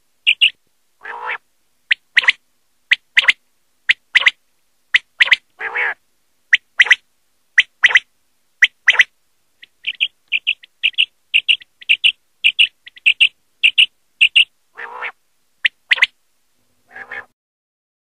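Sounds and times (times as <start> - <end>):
quail calling: 0.2 - 7.0, 7.6 - 16.2, 16.9 - 17.3.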